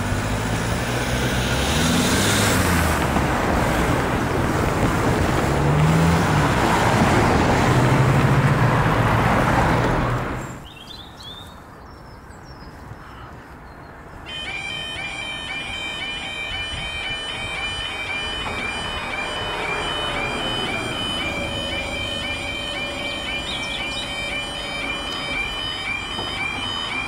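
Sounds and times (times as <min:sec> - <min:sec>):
cars driving past: 0:00.0 - 0:10.6, 0:14.2 - 0:27.0.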